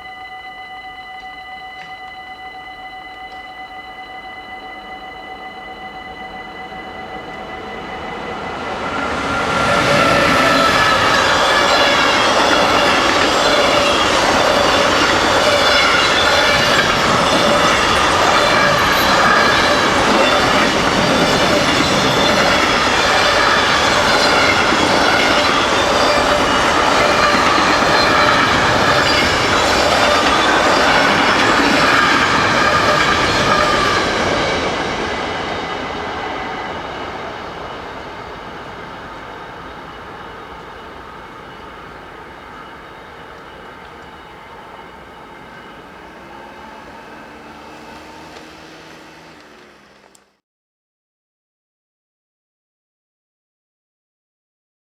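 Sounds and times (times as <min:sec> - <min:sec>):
train wheels running on rails: 0:00.0 - 0:50.4.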